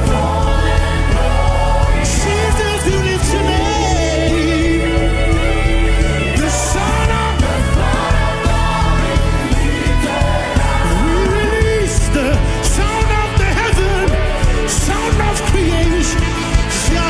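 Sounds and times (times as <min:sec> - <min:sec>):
gospel band with low bass: 0:00.0 - 0:17.0.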